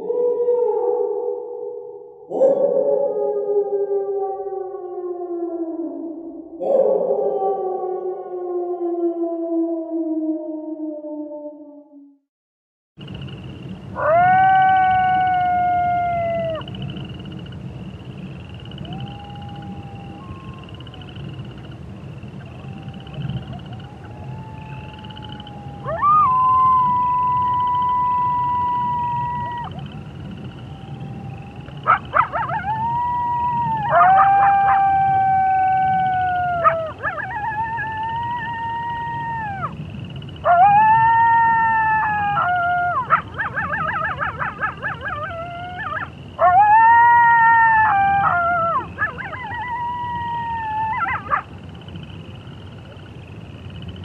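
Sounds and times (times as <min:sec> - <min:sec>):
wolves howling: 0:02.3 - 0:11.8, 0:14.0 - 0:17.2, 0:18.4 - 0:21.7, 0:22.3 - 0:51.5.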